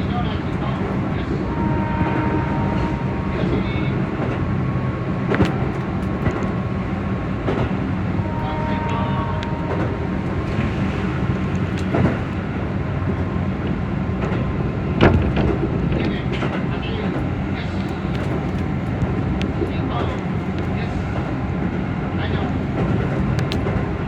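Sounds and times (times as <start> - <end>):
electric train rumble: 0.0 - 24.0
wheels clicking on track: 0.0 - 24.0.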